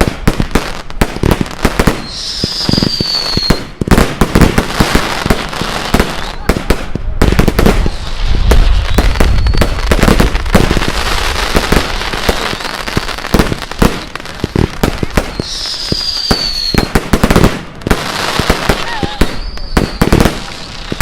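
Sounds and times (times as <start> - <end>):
fireworks crackling and banging: 0.0 - 21.0
whistling firework: 1.6 - 21.0.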